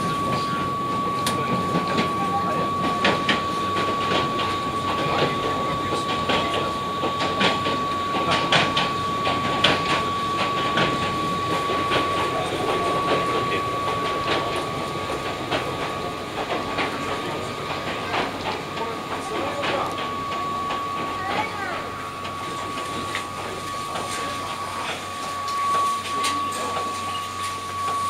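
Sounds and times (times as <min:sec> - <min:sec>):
train running rumble: 0:00.0 - 0:28.0.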